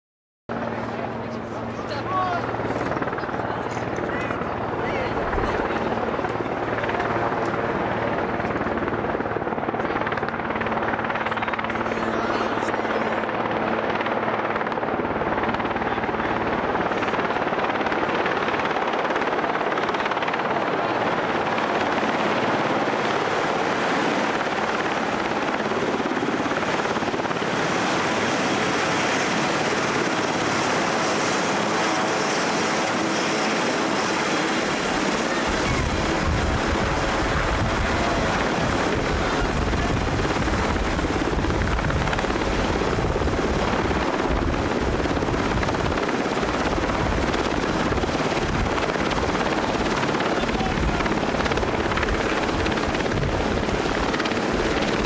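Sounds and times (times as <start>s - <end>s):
helicopter rotor beating: 0.5s - 55.0s
high turbine whine: 0.6s - 55.0s.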